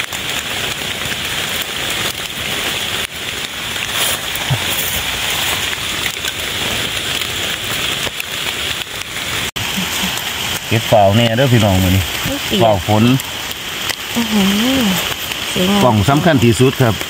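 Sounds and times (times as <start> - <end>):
rain falling on foliage: 0.0 - 17.0.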